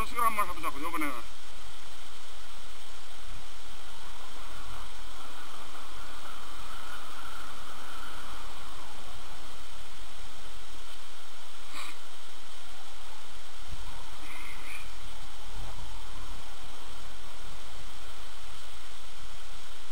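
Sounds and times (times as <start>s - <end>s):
skis hissing on snow: 0.0s - 19.9s.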